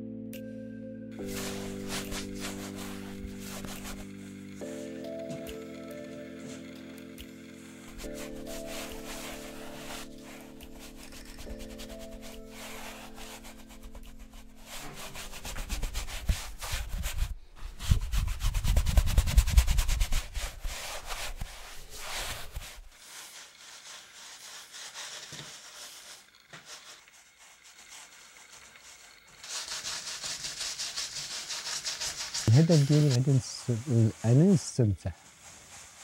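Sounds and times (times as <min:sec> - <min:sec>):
paintbrush scrubbing on canvas: 0:01.2 - 0:36.0.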